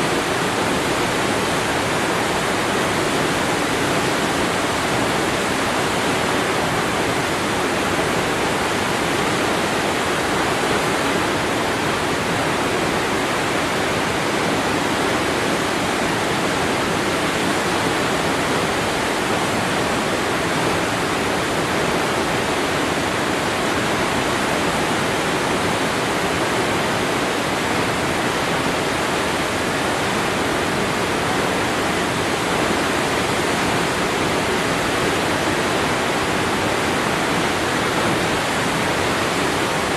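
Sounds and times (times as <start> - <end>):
waterfall crashing: 0.0 - 39.9.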